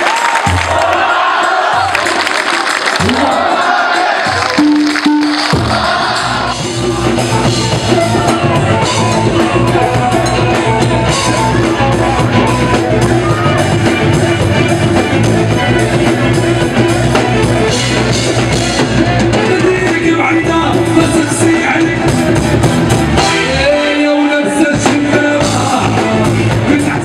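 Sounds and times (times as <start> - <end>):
live band music: 0.0 - 27.0
strong bass line: 4.2 - 27.0.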